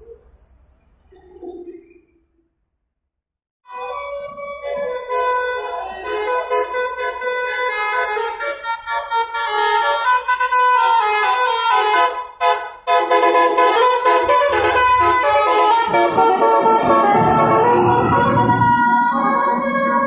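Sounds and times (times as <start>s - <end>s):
multi-tone air horn tune: 3.7s - 20.0s.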